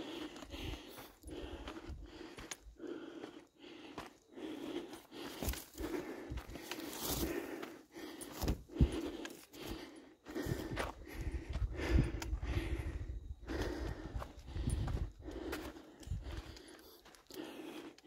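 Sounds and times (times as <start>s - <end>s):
footsteps on gravel trail: 0.0s - 18.0s.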